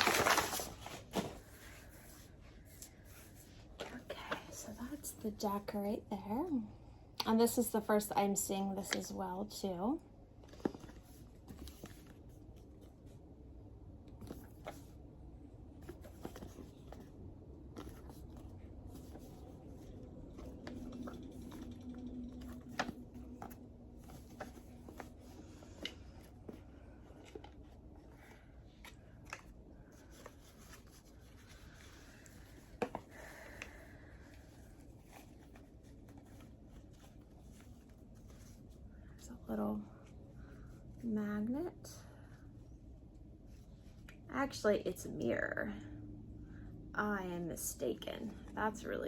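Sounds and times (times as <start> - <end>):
soft rustling of packaging: 0.0 - 6.5, 8.7 - 44.4.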